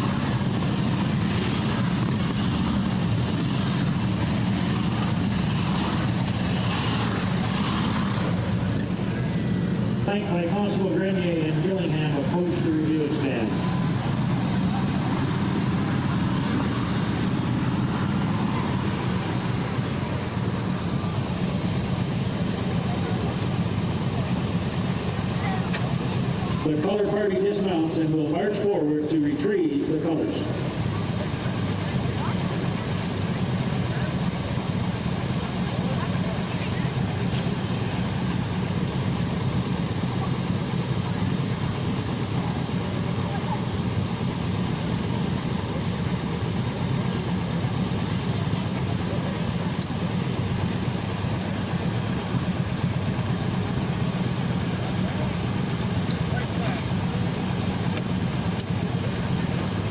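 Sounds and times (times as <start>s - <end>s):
motorcycles idling: 0.0s - 59.9s.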